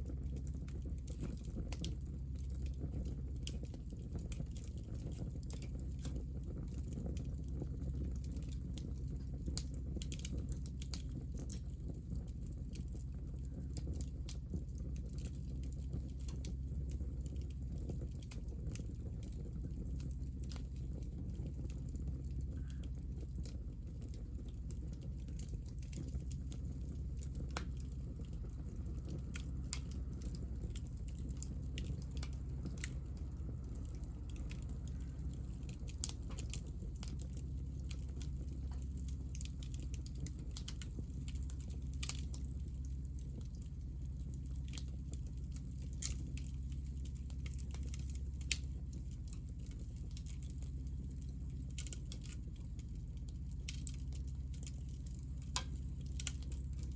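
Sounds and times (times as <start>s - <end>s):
fire crackles and pops: 0.0s - 56.9s
wood fire flame rumble: 0.0s - 56.9s.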